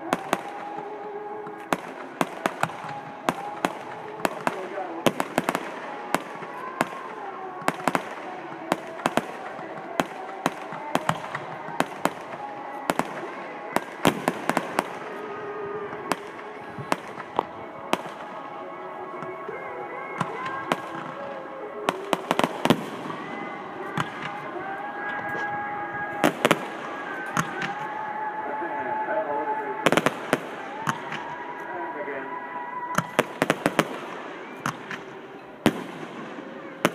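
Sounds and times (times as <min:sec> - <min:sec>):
fireworks bursting with sharp bangs: 0:00.0 - 0:36.9.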